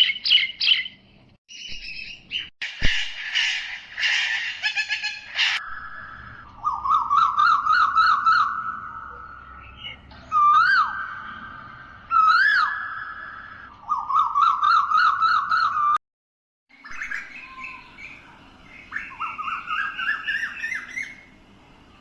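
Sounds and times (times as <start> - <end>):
bird chatter: 0.0 - 13.3, 16.9 - 22.0
birds whistling calls: 0.0 - 16.0, 16.8 - 22.0.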